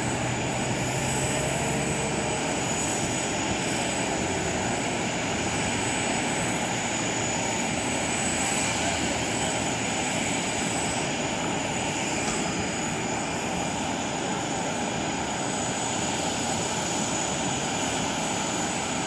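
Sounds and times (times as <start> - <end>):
high turbine whine: 0.0 - 19.0.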